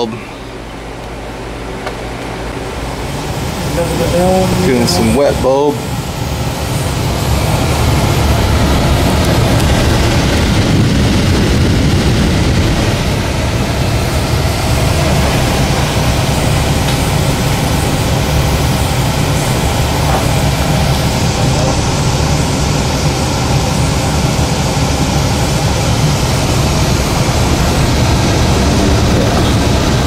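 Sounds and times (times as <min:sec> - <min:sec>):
air handler rushing air: 0:00.0 - 0:30.0
low hum: 0:00.0 - 0:30.0.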